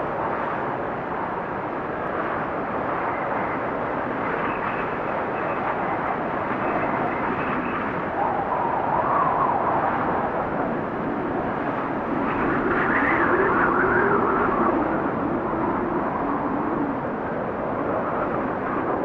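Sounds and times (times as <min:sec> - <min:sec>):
wind blowing with whistle: 0:00.0 - 0:19.0.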